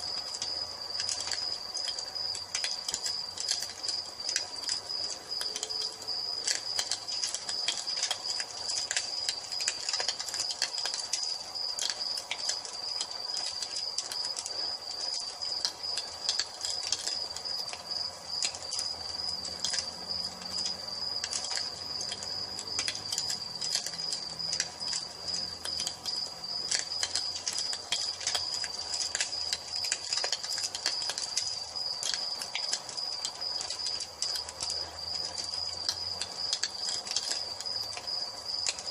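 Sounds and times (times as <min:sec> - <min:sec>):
crickets chirping: 0:00.0 - 0:38.9
wood fire crackling and popping: 0:00.0 - 0:38.9.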